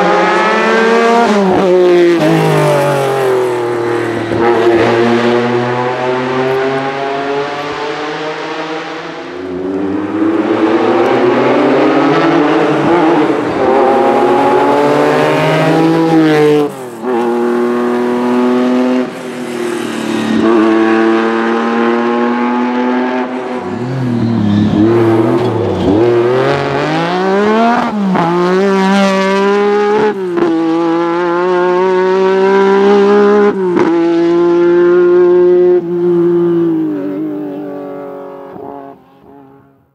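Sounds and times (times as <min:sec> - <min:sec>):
rally car engine revving: 0:00.0 - 0:39.7.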